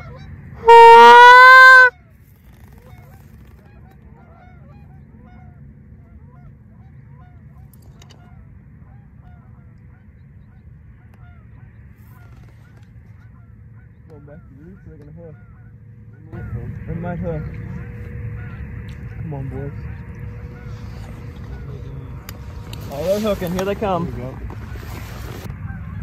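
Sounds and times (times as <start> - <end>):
geese honking: 0.0 - 2.0, 2.7 - 26.0
steady low rumble: 1.8 - 26.0.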